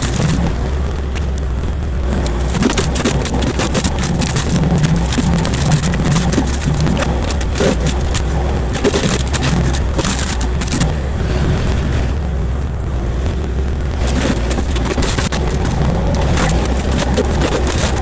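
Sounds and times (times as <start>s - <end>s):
mulcher shredding brush: 0.0s - 12.1s, 13.6s - 18.0s
diesel engine low drone: 0.0s - 18.0s.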